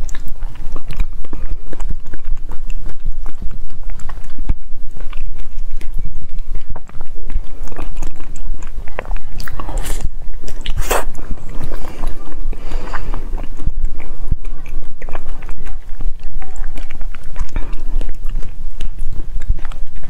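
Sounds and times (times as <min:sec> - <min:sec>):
biting and chewing ice cream: 0:00.0 - 0:20.0.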